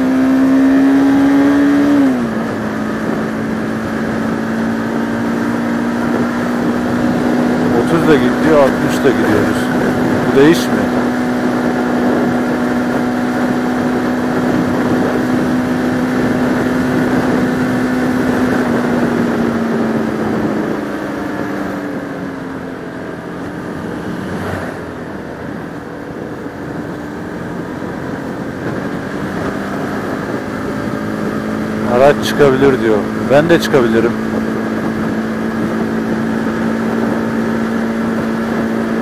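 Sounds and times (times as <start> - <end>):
motorcycle engine running: 0.0 - 39.0
wind on microphone: 0.0 - 39.0.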